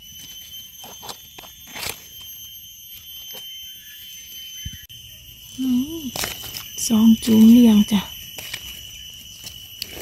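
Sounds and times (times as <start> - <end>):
night insects chorus: 0.0 - 10.0.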